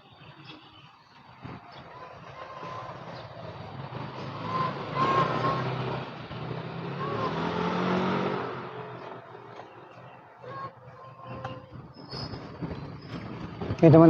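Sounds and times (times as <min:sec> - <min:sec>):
vehicle driving past: 0:01.4 - 0:14.0.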